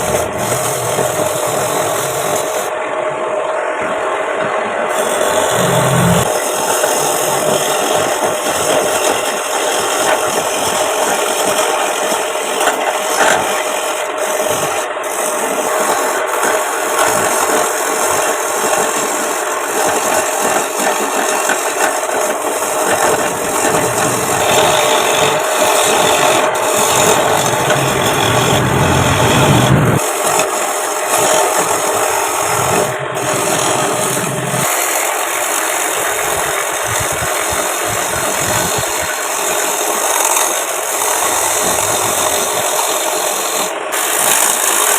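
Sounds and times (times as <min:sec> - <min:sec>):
lathe tool scraping wood: 0:00.0 - 0:02.7, 0:04.9 - 0:44.9
lathe motor running: 0:00.0 - 0:04.2, 0:04.8 - 0:44.9.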